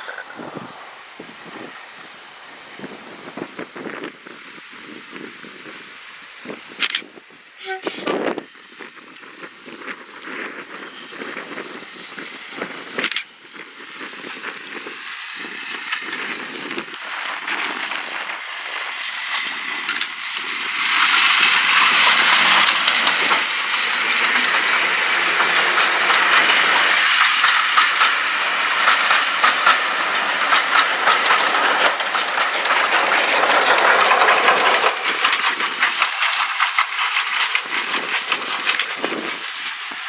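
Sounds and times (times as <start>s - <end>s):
wheels clattering over rail joints: 0.0s - 4.1s, 6.8s - 40.0s
diesel train passing: 0.0s - 6.8s, 9.4s - 40.0s.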